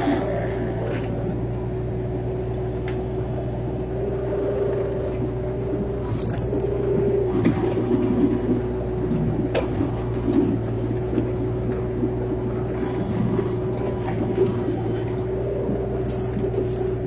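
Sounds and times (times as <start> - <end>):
excavator engine drone: 0.0 - 17.0
held whine: 0.0 - 17.0.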